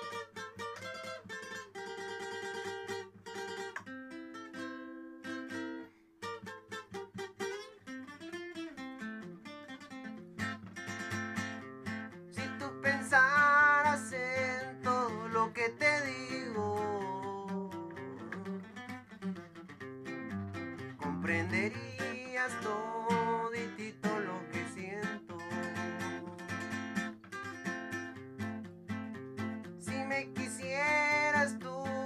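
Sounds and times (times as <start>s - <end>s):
plucked acoustic guitar melody: 0.0s - 32.0s.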